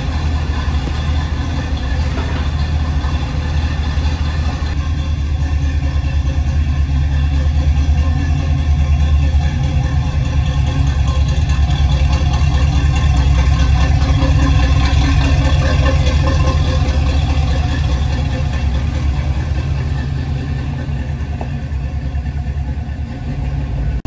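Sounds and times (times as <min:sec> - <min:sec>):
pickup truck engine running: 0:00.0 - 0:24.0.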